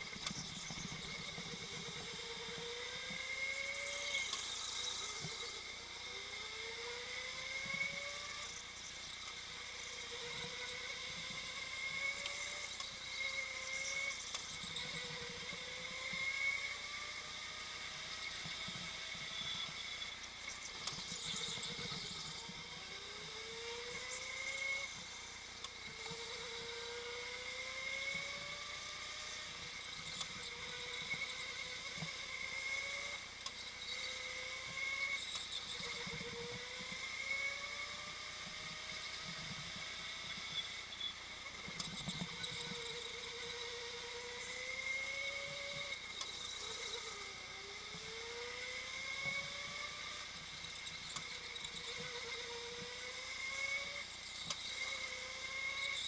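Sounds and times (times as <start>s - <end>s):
go-kart motor whining: 0.0s - 56.0s.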